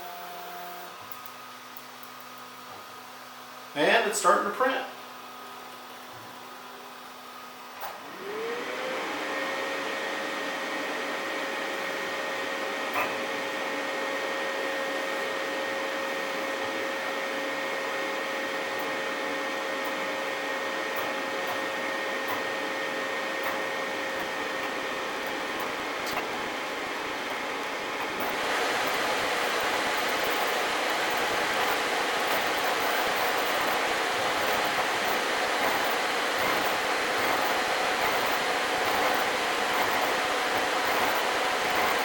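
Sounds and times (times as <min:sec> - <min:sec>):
cooling fan whine and whoosh: 0:07.7 - 0:42.0.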